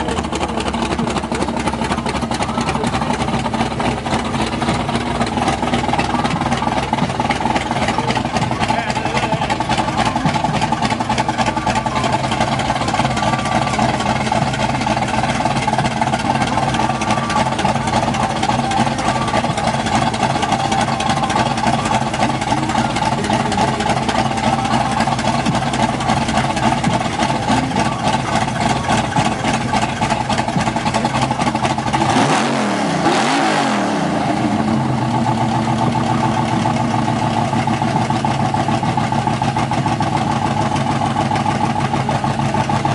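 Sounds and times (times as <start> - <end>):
car engine idling: 0.0 - 42.9
car engine revving: 0.0 - 42.9.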